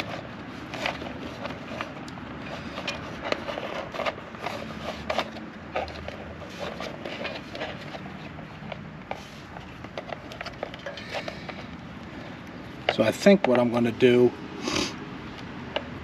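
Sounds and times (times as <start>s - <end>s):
hands handling electrical wires: 0.0s - 13.7s.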